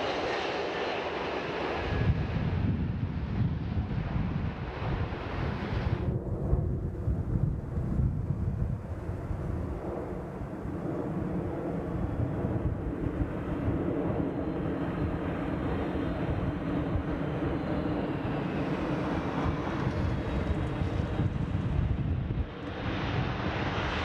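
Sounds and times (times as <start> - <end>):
jet engine rumble with whine: 0.0 - 24.0.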